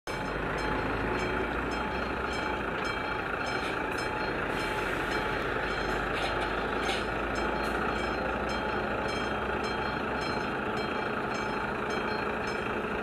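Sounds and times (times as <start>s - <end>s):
level crossing warning bell: 0.1s - 13.0s.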